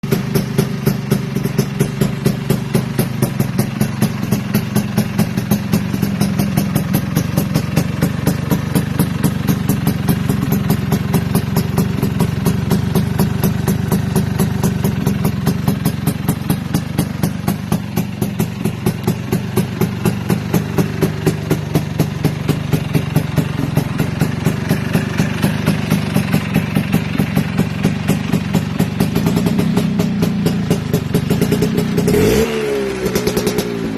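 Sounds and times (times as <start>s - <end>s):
scooter engine idling: 0.0s - 33.9s.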